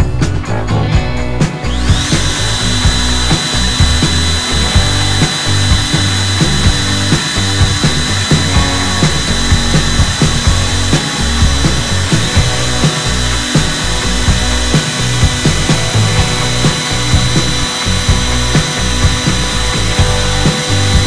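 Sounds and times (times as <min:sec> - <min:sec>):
background music: 0:00.0 - 0:21.0
trim router whining: 0:01.5 - 0:21.0.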